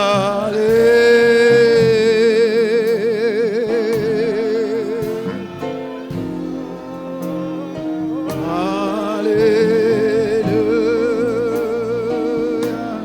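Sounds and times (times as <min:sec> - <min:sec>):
held keyboard chords: 0:00.0 - 0:13.0.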